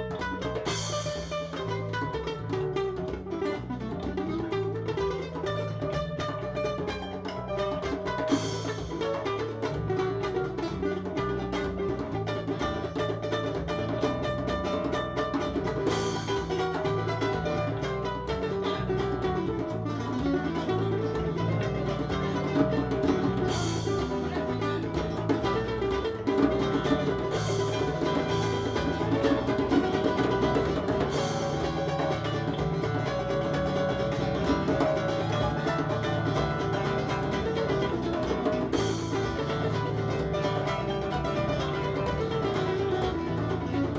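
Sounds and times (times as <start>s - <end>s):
acoustic guitar: 0.0s - 43.9s
bass: 0.0s - 43.9s
percussion: 0.0s - 43.9s.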